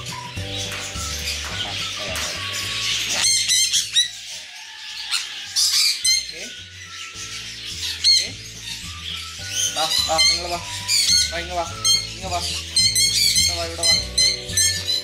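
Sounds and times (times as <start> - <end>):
parrots squawking: 0.0 - 15.0.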